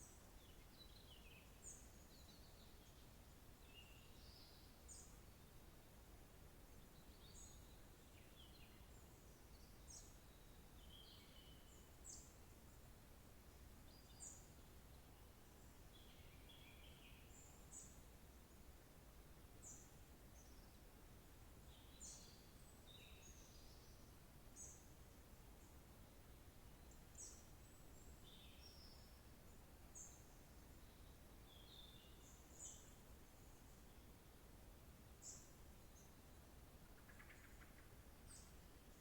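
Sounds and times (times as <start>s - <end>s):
low background hiss: 0.0s - 39.0s.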